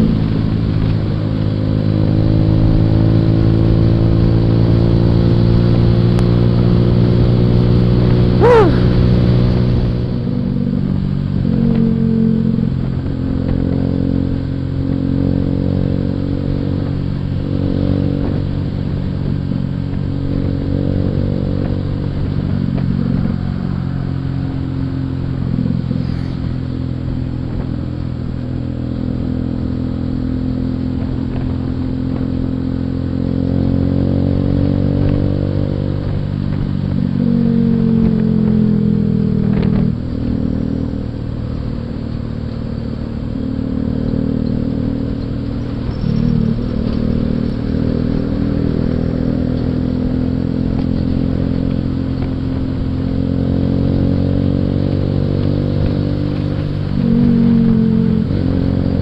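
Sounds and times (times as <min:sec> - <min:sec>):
motorcycle engine revving: 0:00.0 - 0:59.0
road and wind rumble: 0:00.0 - 0:59.0.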